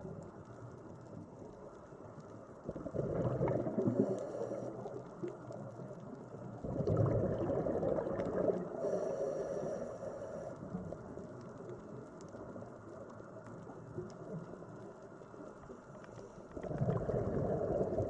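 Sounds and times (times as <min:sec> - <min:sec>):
faint crackling: 0:00.0 - 0:18.0
underwater bubbling rumble: 0:00.0 - 0:18.0.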